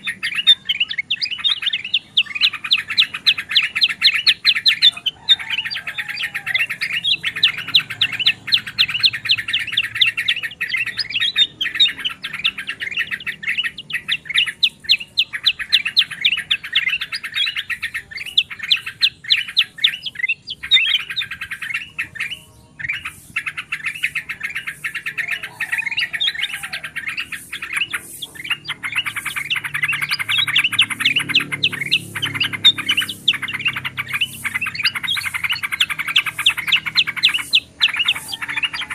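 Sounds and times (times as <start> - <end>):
bulbuls chattering: 0.0 - 38.9.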